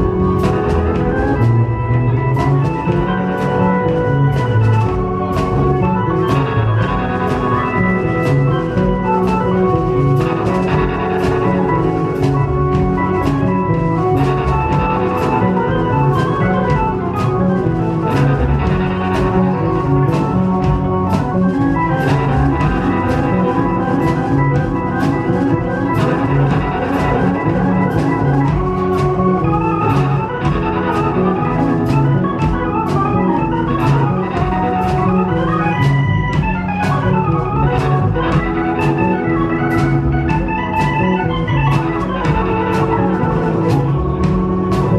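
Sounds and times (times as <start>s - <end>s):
live rock band playing: 0.0s - 44.9s
organ: 0.0s - 44.9s.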